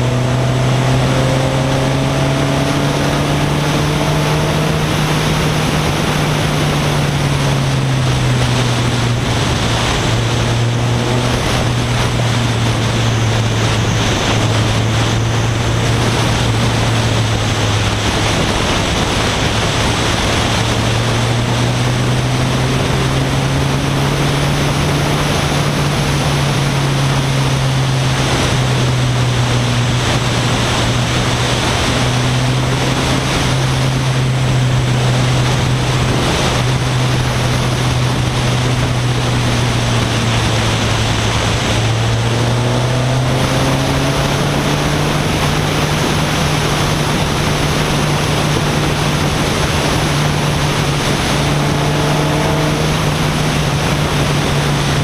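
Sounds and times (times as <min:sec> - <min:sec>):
car engine running: 0:00.0 - 0:55.0
wind and road noise: 0:00.0 - 0:55.0.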